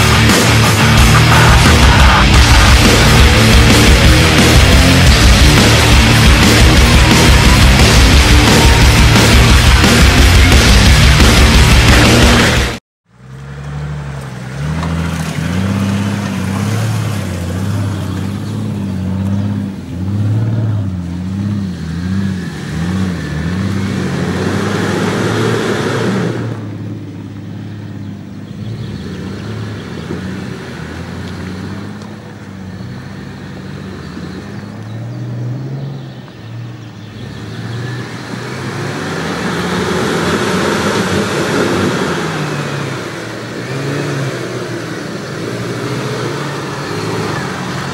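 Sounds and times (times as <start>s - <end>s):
truck engine revving in mud: 0.0s - 47.9s.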